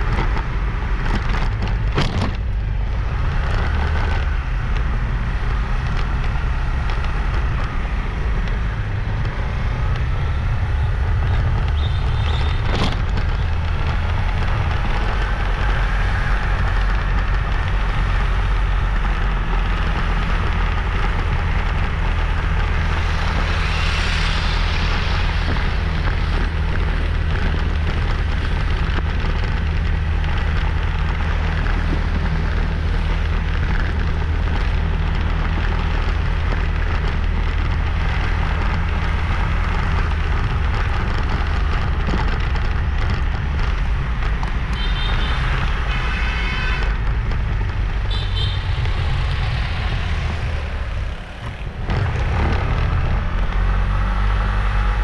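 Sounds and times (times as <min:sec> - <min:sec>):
road noise: 0:00.0 - 0:55.0
wind: 0:00.0 - 0:55.0
motorbike engine running: 0:01.0 - 0:55.0.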